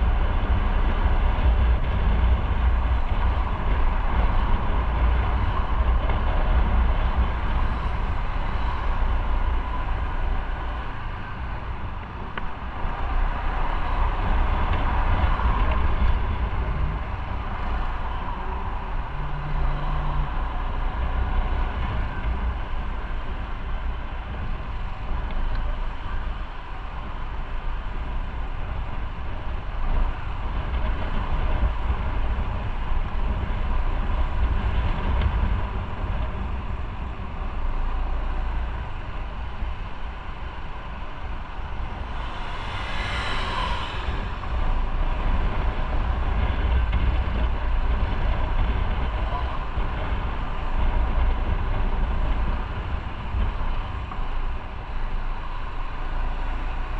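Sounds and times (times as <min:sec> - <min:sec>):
wind noise on microphone: 0:00.0 - 0:56.9.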